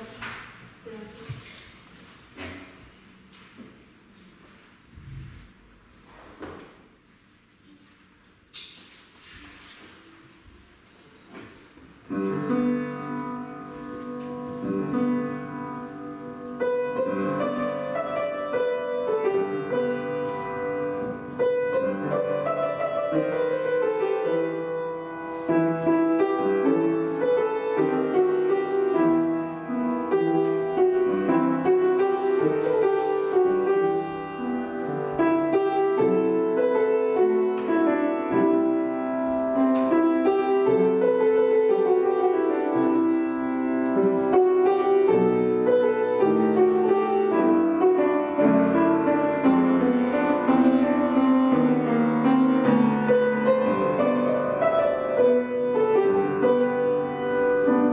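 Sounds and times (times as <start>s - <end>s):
classical piano accompaniment: 0.0s - 57.9s.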